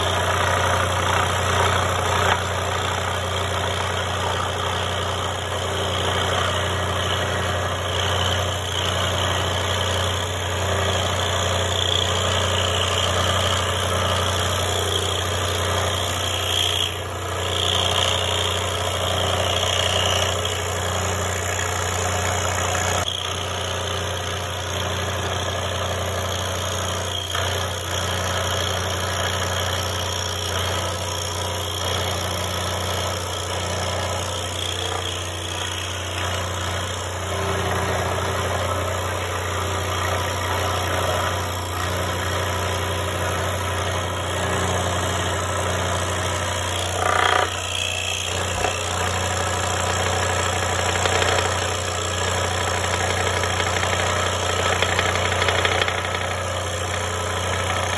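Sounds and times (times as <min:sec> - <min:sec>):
scroll saw cutting wood: 0:00.0 - 0:57.9.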